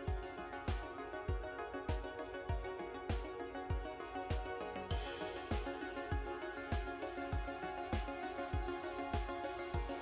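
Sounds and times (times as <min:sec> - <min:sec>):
low kick drum beat: 0:00.0 - 0:10.0.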